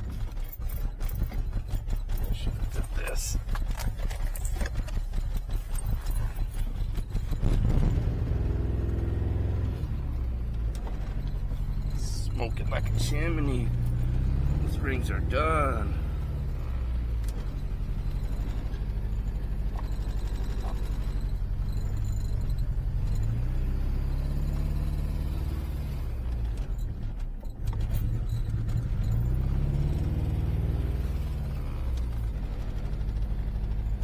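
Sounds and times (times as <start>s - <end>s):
car engine idling unevenly: 0.0s - 34.0s.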